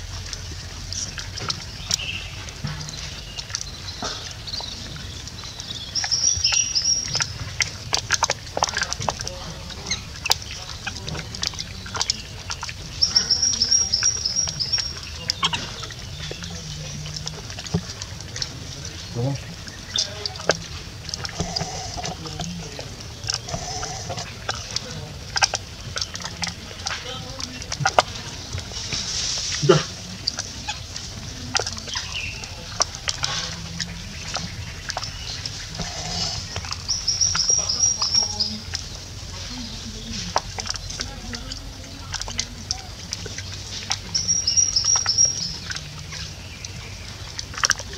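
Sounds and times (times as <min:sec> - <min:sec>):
bird chirping: 0:01.0 - 0:27.7, 0:33.5 - 0:47.9.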